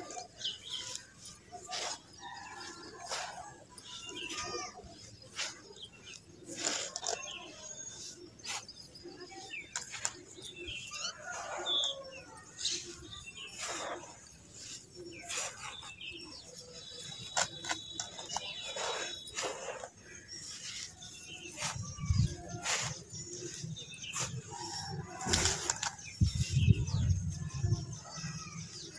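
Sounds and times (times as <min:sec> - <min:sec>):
birds chirping: 0:00.0 - 0:28.9
dirt clods crunching in hands: 0:00.0 - 0:28.9.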